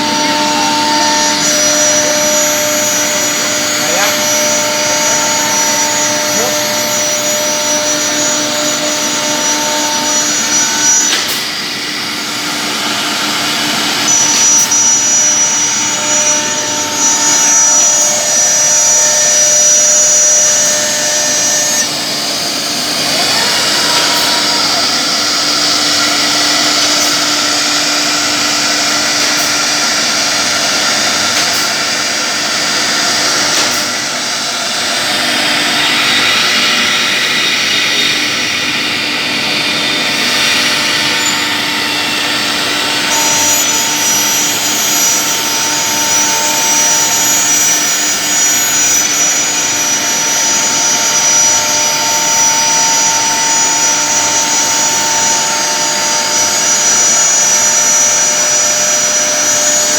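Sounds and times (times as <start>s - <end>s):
high whine: 0.0s - 59.9s
router machine cutting: 0.0s - 59.9s.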